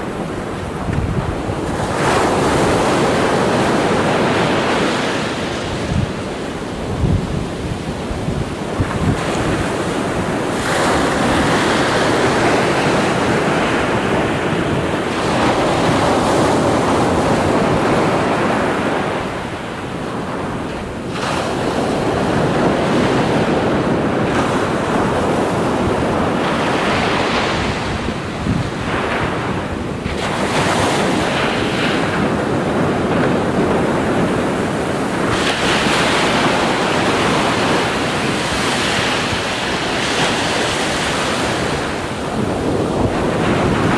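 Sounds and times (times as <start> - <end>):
waves breaking: 0.0 - 43.9
wind rumbling on microphone: 0.0 - 43.9.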